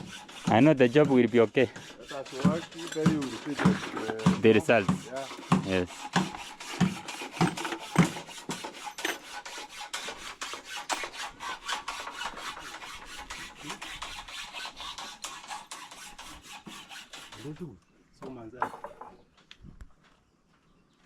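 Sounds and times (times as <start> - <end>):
hand saw cutting wood: 0.0 - 17.8.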